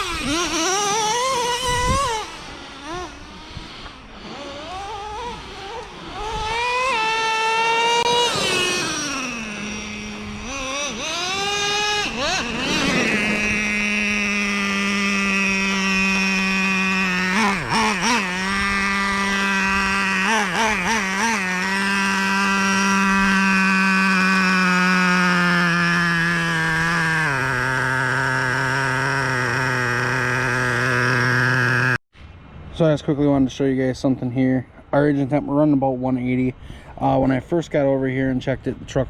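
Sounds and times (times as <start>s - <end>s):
nitro engine revving and whining: 0.0s - 32.0s.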